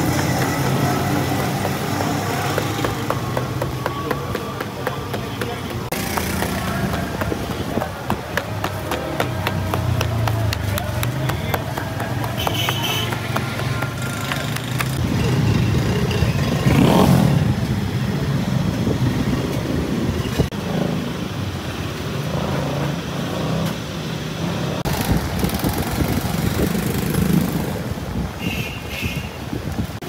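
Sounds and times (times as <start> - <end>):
motorcycles and cars passing: 0.0 - 30.0.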